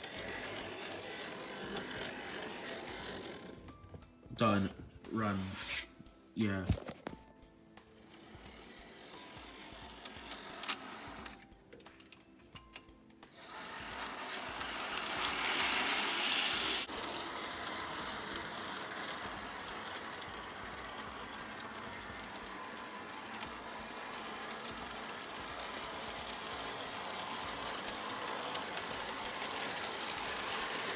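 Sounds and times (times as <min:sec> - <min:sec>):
model train motor whirring: 0:00.0 - 0:03.7, 0:08.0 - 0:11.5, 0:13.3 - 0:30.9.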